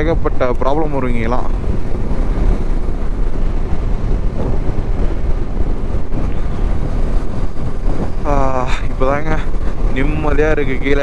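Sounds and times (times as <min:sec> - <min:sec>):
motorcycle engine rumble: 0:00.0 - 0:11.0
wind rush on microphone: 0:00.0 - 0:11.0.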